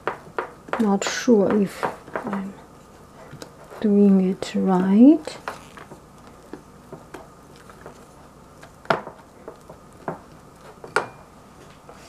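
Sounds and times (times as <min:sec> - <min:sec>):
spatula stirring cream: 0:00.0 - 0:12.0.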